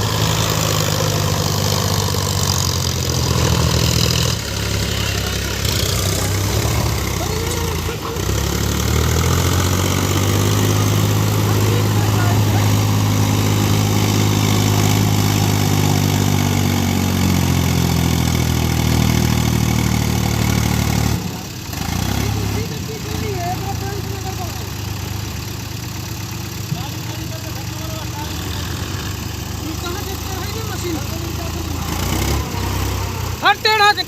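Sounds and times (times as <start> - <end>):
diesel engine revving: 0.0 - 34.0.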